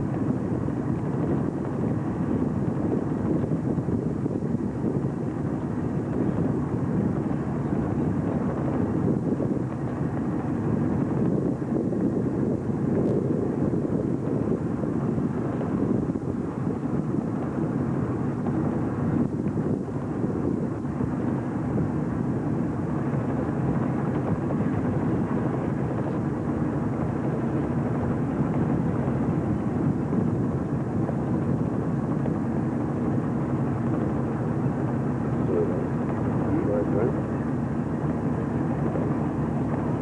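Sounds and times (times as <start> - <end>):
boat engine drone: 0.0 - 40.0.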